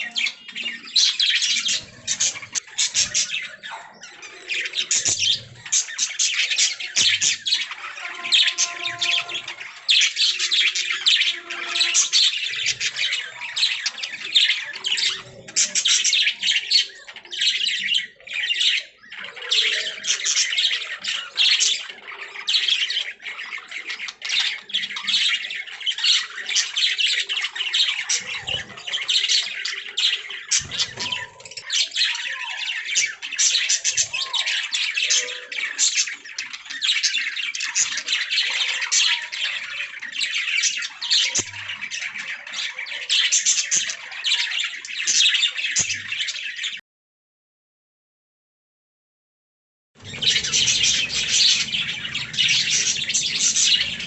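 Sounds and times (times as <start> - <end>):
budgerigars chirping: 0.0 - 46.2, 50.0 - 54.0.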